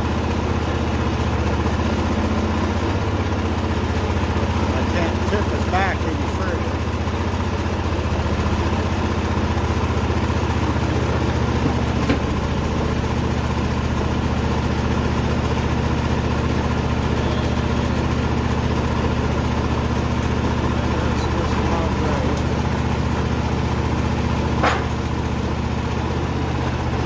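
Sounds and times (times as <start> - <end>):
diesel generator engine running: 0.0 - 27.0.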